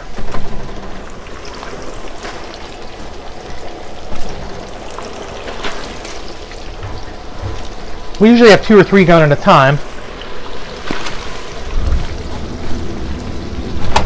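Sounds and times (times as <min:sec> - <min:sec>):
hot oil bubbling and sizzling: 0:00.0 - 0:14.0.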